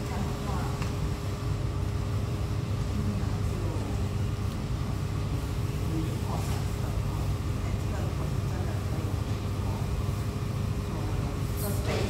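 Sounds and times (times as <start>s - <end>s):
restaurant room noise: 0.0s - 12.0s
thin constant hum: 0.0s - 12.0s.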